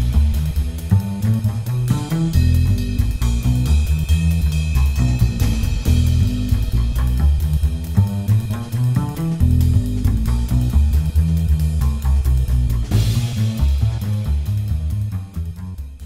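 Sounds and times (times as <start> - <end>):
band with drums bass and guitar: 0.0 - 16.0.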